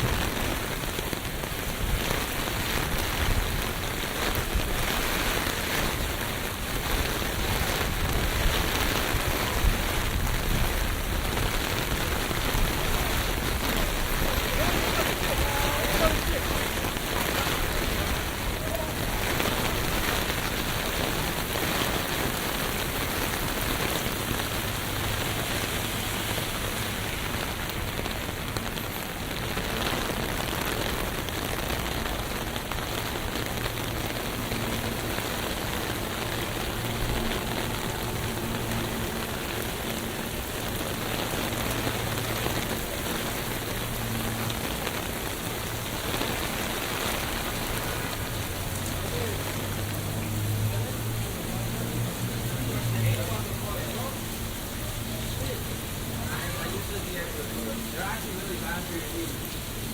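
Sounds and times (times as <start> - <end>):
rain falling on street: 0.0 - 59.9.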